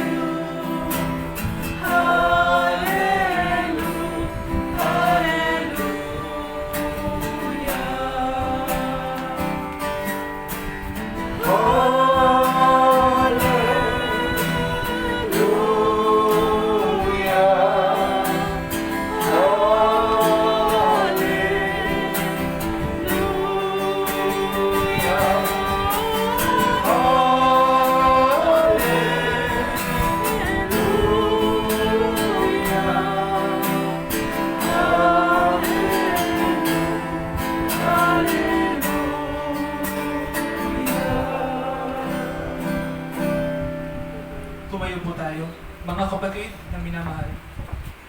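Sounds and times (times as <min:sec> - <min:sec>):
congregation singing a hymn: 0:00.0 - 0:45.3
strummed guitar: 0:00.0 - 0:46.3.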